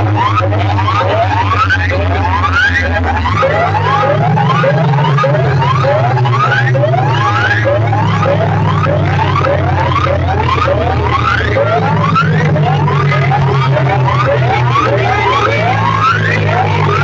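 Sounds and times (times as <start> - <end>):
heavy sustained bass line: 0.0 - 17.0
rising siren-like sweeps: 0.0 - 17.0.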